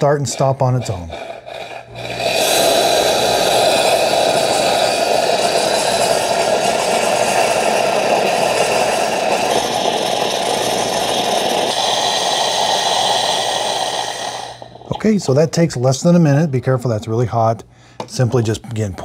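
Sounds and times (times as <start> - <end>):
espresso machine steam hissing: 0.0 - 15.5.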